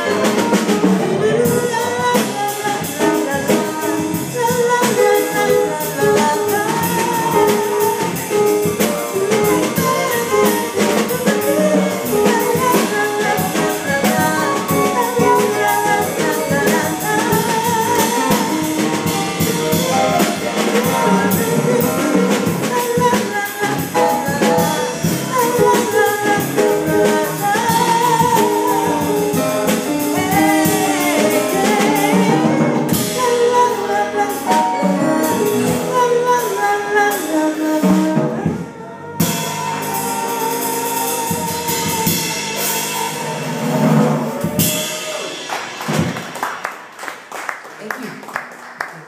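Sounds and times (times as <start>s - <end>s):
woman singing into a microphone: 0.0s - 45.0s
drum kit beat: 0.0s - 47.3s
live band playing: 0.0s - 48.3s.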